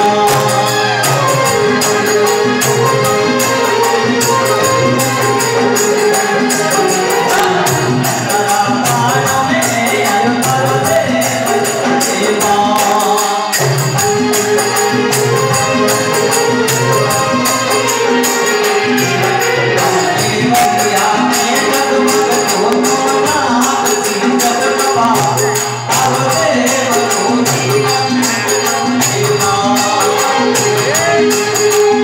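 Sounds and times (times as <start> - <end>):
dholak drum: 0.0 - 32.0
harmonium: 0.0 - 32.0
keyboard: 0.0 - 32.0
person singing: 0.0 - 32.0.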